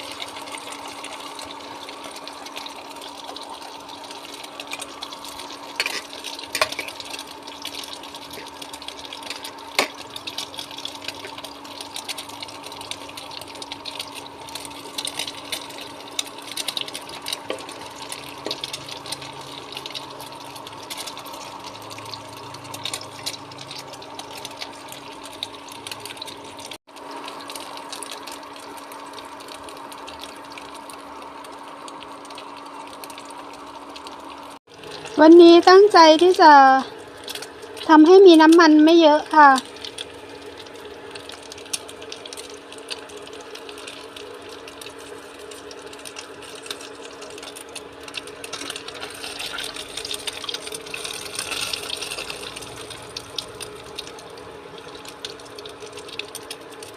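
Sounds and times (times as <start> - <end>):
vegetables frying in hot oil: 0.0 - 56.9.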